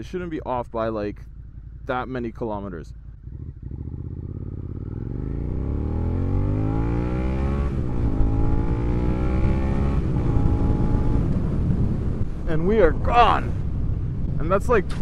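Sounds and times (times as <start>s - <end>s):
motorcycle engine accelerating: 1.1s - 14.6s.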